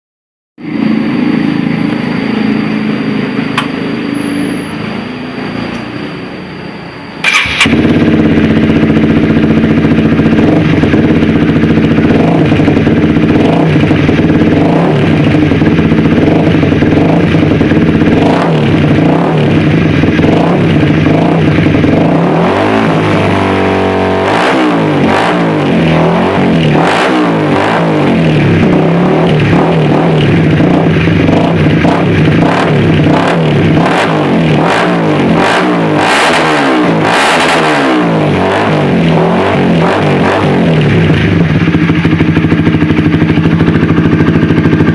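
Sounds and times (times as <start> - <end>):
motorcycle engine idling: 0.6 - 36.0, 38.1 - 44.9
motorcycle engine revving: 0.6 - 44.9.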